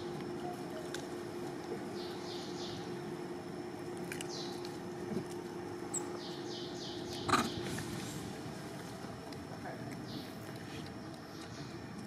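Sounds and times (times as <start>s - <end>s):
faint hum: 0.0s - 12.0s
outdoor background hiss: 0.0s - 12.0s.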